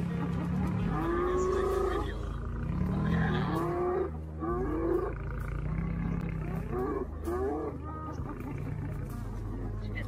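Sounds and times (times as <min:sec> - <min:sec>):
low growl: 0:00.0 - 0:10.0
hyenas calling: 0:00.4 - 0:10.0.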